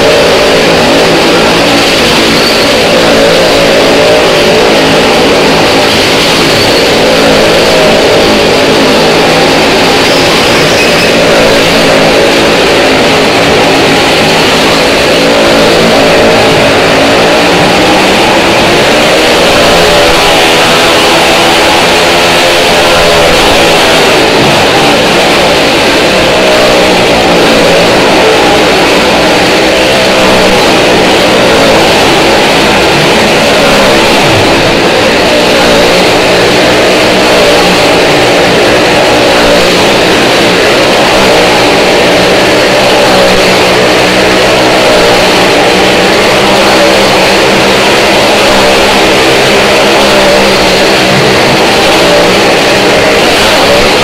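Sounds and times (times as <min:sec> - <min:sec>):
engines revving: 0:00.0 - 0:54.0.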